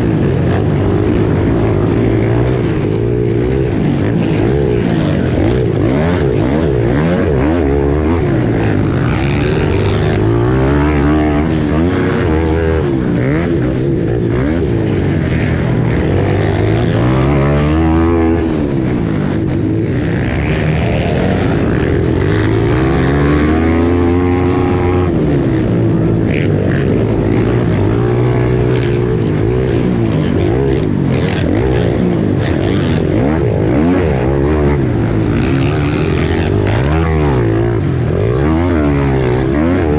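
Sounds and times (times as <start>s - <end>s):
pit bike engine racing: 0.0s - 39.9s.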